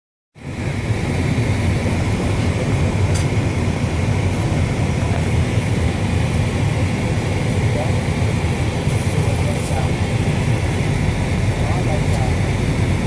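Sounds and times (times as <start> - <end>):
aircraft cabin rumble: 0.4 - 13.0
steady high hum: 0.4 - 13.0.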